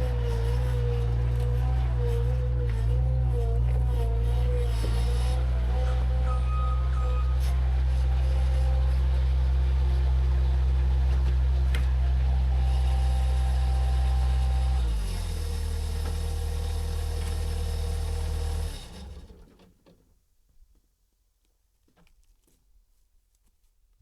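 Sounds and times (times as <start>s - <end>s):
engine running low hum: 0.0s - 19.7s.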